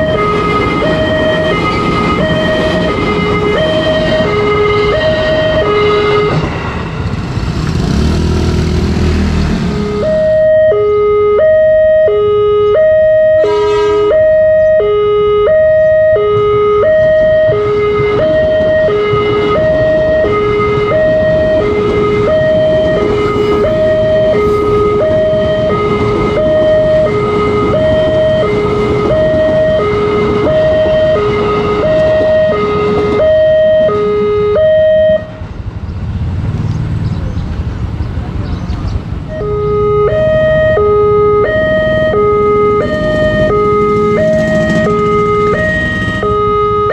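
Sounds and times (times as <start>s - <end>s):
level crossing two-tone alarm: 0.0s - 6.4s, 9.8s - 35.3s, 39.3s - 46.9s
electric train rumbling past: 0.0s - 10.4s, 13.3s - 14.9s, 16.8s - 46.7s.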